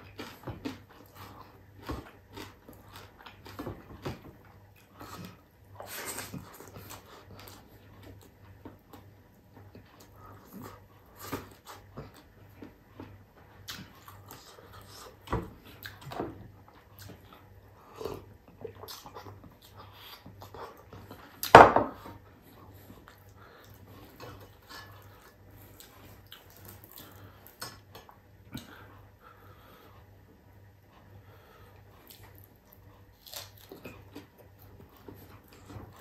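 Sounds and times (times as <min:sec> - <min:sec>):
chewing and lip smacking: 0:00.0 - 0:21.5, 0:22.4 - 0:29.0, 0:31.8 - 0:36.0.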